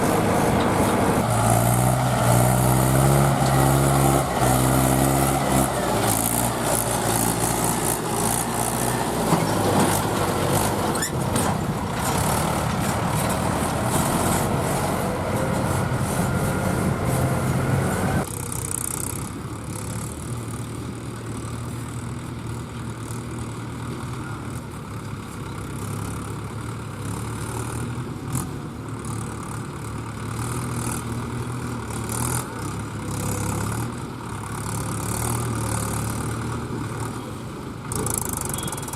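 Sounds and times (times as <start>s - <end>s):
tractor diesel engine straining: 0.0s - 38.9s.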